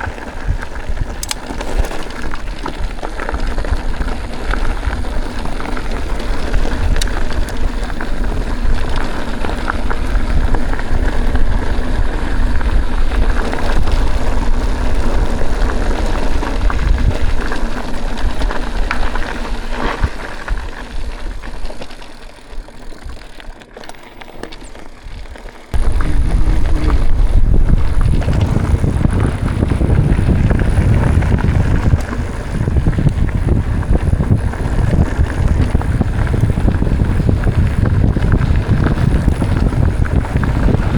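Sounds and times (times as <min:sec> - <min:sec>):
wind on microphone: 0:00.0 - 0:19.2, 0:25.7 - 0:40.9
bike tyres on gravel: 0:00.0 - 0:40.9.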